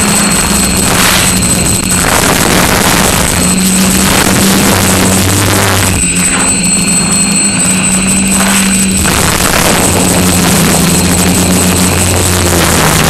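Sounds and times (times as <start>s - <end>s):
drone motors and propellers buzzing: 0.0s - 13.0s.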